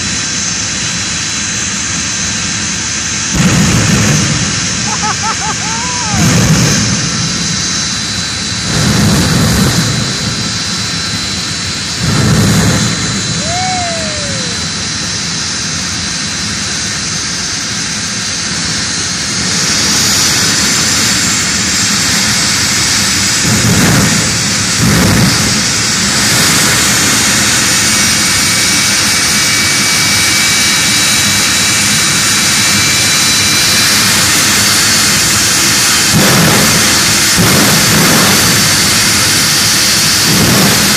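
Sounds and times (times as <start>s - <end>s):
jet engine high whine: 0.0s - 40.9s
afterburner bursts: 0.1s - 40.9s.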